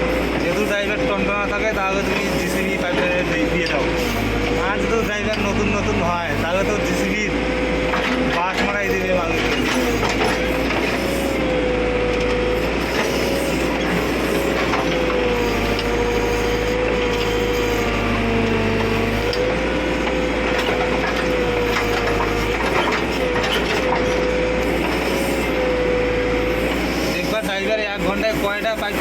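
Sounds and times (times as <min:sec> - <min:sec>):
backhoe loader digging: 0:00.0 - 0:29.0.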